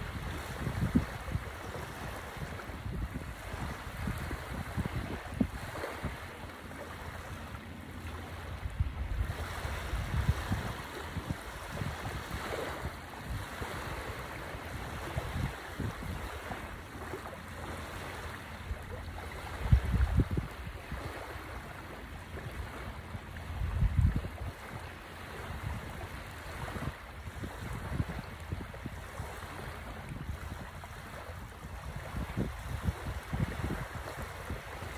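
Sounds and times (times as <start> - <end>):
small waves lapping on shore: 0.0 - 34.9
wind buffeting microphone: 0.0 - 34.9.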